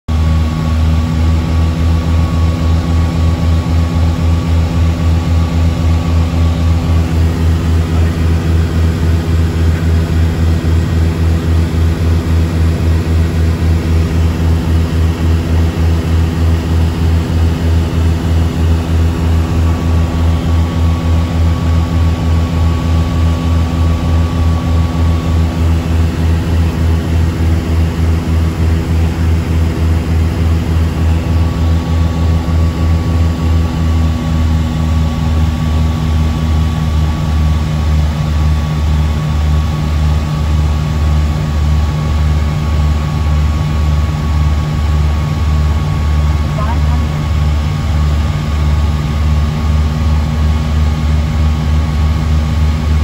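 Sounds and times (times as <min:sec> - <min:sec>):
airplane engine cabin drone: 0:00.1 - 0:53.0.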